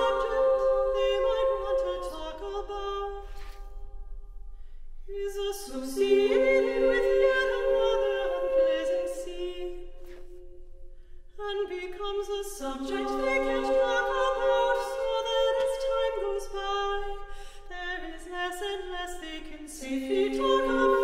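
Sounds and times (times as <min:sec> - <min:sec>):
women singing in close harmony: 0:00.0 - 0:03.2, 0:05.1 - 0:10.2, 0:11.4 - 0:21.0.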